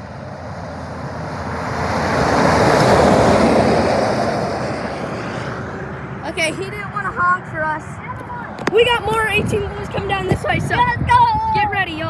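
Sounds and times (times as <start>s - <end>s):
semi-truck passing by: 0.0s - 11.1s.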